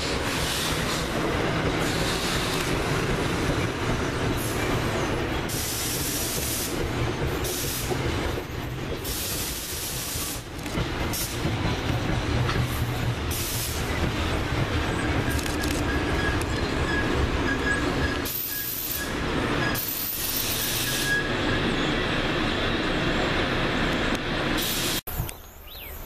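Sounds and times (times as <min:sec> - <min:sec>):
train wheels rolling on rail: 0:00.0 - 0:25.6.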